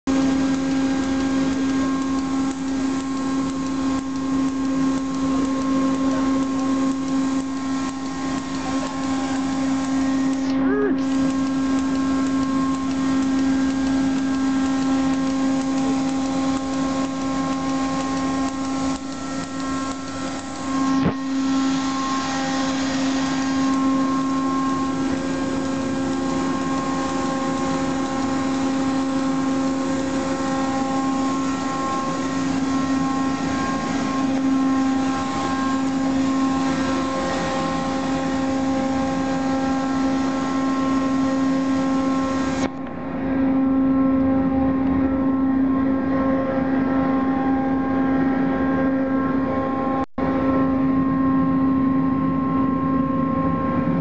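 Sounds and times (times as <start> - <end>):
machinery hum: 0.1 - 54.0.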